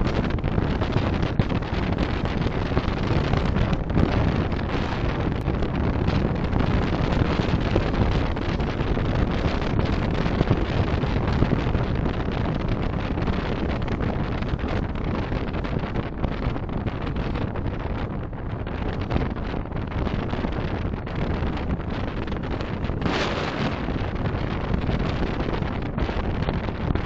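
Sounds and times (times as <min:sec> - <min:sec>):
car road and wind noise: 0:00.0 - 0:27.0.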